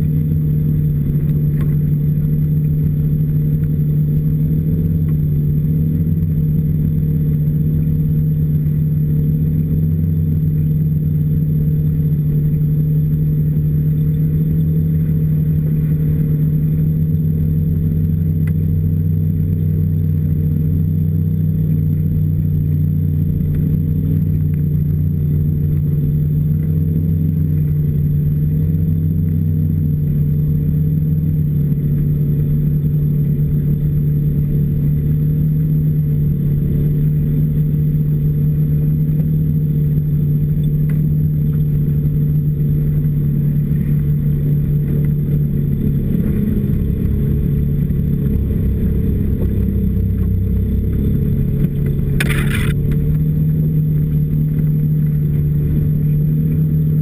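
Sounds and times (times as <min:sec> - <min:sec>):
snowmobile engine droning: 0:00.0 - 0:57.0.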